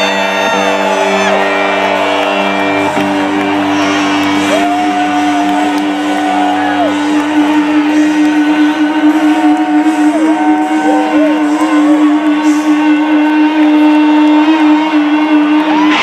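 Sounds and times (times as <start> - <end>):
live rock band playing: 0.0 - 14.8
crowd whooping: 0.0 - 16.0.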